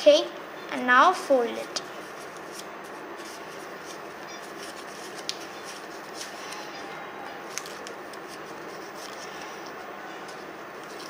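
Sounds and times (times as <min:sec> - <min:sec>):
steady background hiss: 0:00.0 - 0:11.0
paper rustling and crinkling: 0:02.0 - 0:11.0.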